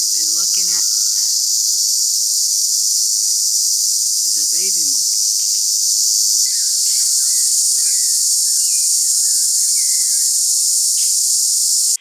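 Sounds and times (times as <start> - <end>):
birds chirping: 0.0 - 12.0
insects chorus: 0.0 - 12.0.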